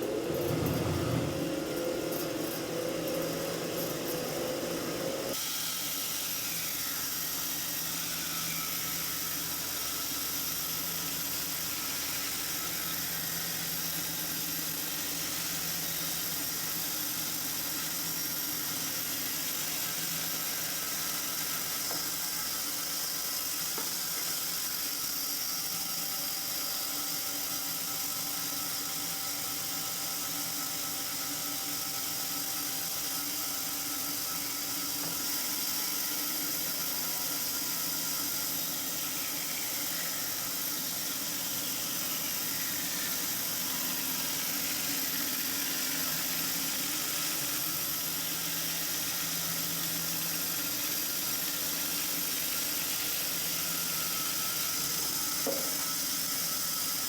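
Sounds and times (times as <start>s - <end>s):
power tool motor whirring: 0.0s - 57.0s.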